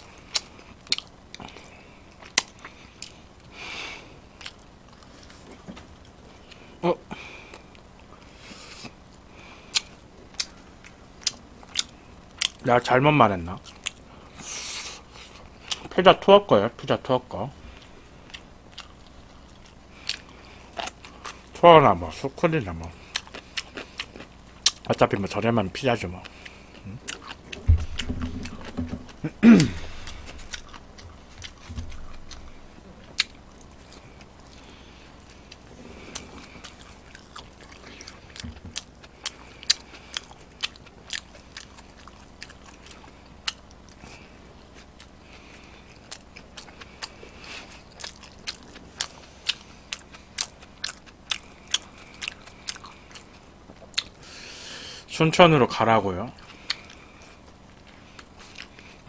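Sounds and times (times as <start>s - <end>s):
crunchy chewing: 0.0s - 12.6s, 13.5s - 15.9s, 17.7s - 21.6s, 22.2s - 54.4s, 56.3s - 59.0s.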